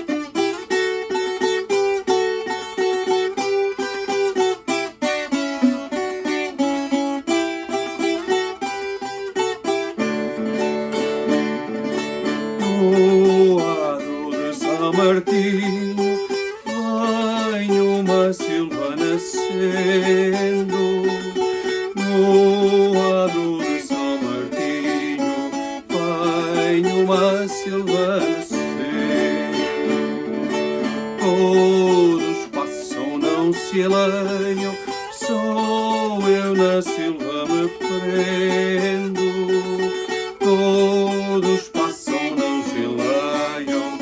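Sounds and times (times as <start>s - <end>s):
folk guitar plucked melody: 0.0s - 44.0s.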